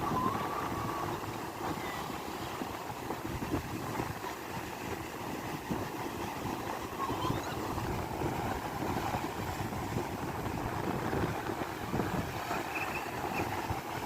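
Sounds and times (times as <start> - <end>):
sea surf washing on shore: 0.0 - 14.0
wind rumbling on microphone: 0.0 - 14.0.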